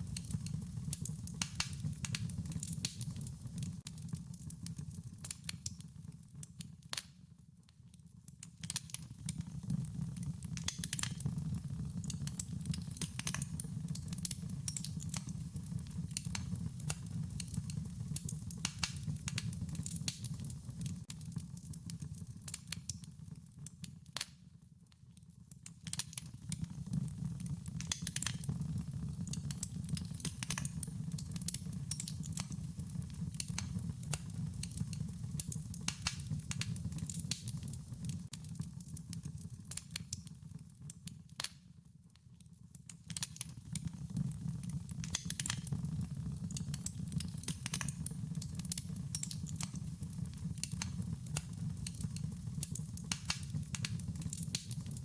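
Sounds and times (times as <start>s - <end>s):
low rumble of burning: 0.0s - 5.8s, 8.7s - 23.6s, 25.9s - 41.0s, 43.6s - 55.0s
wood fire crackling: 0.0s - 7.1s, 8.4s - 24.6s, 25.4s - 42.2s, 42.9s - 55.0s.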